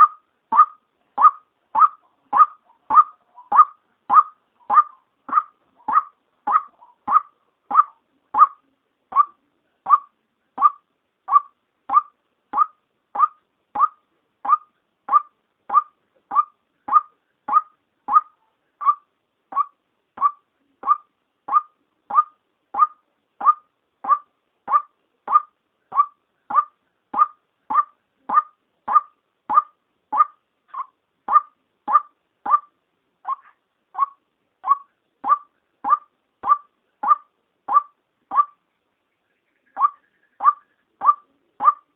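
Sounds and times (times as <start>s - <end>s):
waterhen call repeated short note: 0.0s - 38.6s, 39.8s - 41.9s.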